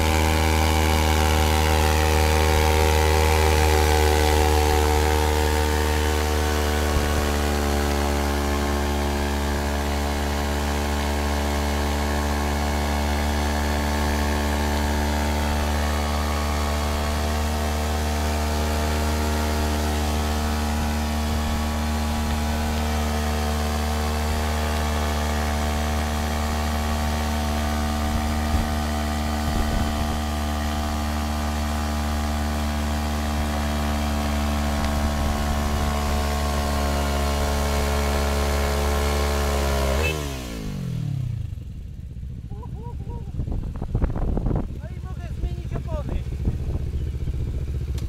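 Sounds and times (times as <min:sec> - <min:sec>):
quad engine revving: 0:00.0 - 0:48.0.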